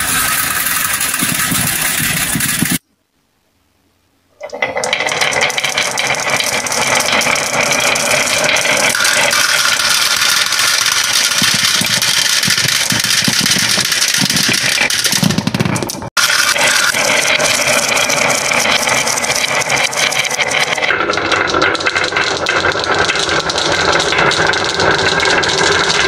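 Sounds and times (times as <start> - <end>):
glass marbles rattling on wooden track: 0.0 - 2.8, 4.4 - 26.0
marbles knocking into plastic toy: 4.4 - 26.0.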